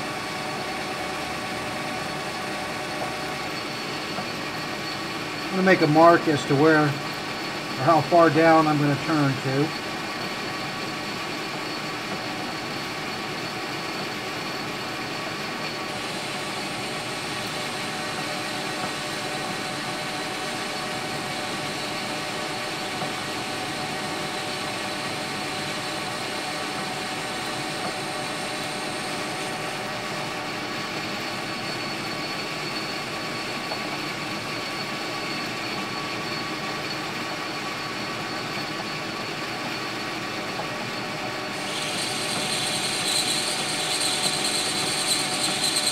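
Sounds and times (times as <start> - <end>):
metal lathe humming: 0.0 - 45.9.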